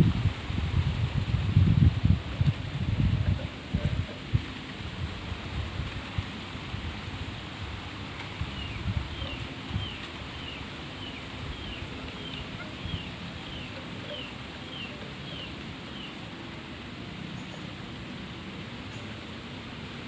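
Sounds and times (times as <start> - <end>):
wind rustling vegetation: 0.0 - 20.0.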